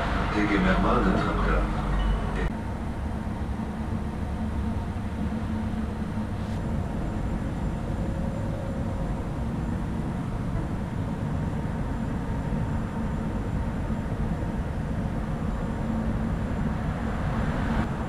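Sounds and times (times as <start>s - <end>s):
tram equipment humming: 0.0s - 18.0s.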